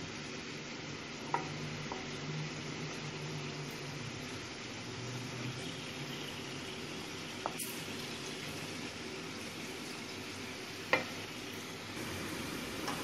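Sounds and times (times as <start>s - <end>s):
potato wedges sizzling in oil: 0.0s - 13.0s.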